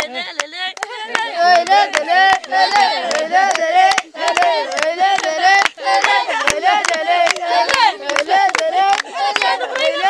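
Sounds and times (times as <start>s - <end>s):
high voices chanting: 0.0s - 10.0s
rhythmic hand-clapping: 0.0s - 10.0s.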